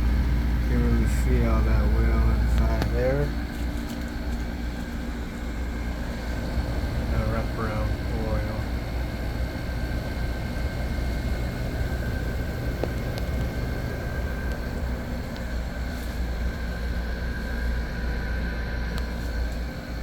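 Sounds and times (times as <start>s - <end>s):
air conditioner compressor hum: 0.0s - 20.0s
thin whine: 0.0s - 20.0s.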